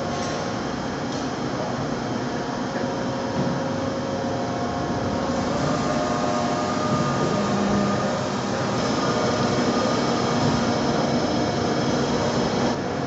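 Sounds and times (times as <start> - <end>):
machinery hum: 0.0 - 13.0
faint steady whining tones: 2.0 - 13.0.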